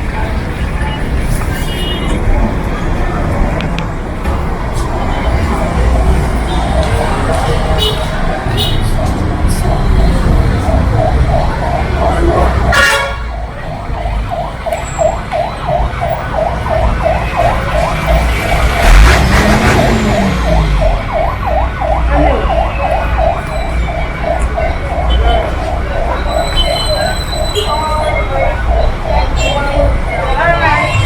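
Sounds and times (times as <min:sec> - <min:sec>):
rumble of vehicles: 0:00.0 - 0:31.0.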